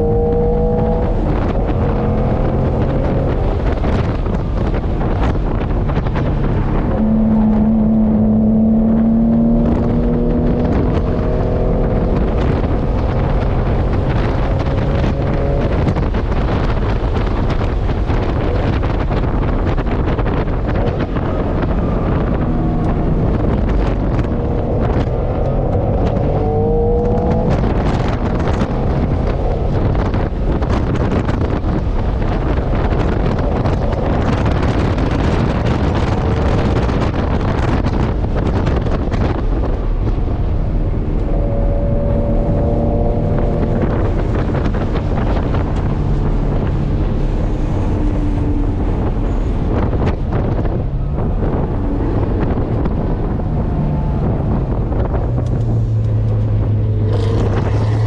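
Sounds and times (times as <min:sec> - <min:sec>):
car engine under load: 0:00.0 - 0:58.0
wind and road noise: 0:00.0 - 0:58.0.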